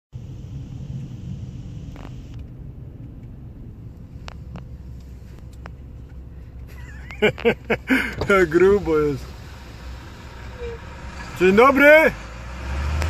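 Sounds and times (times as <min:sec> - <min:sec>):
car engine and road rumble: 0:00.1 - 0:13.0.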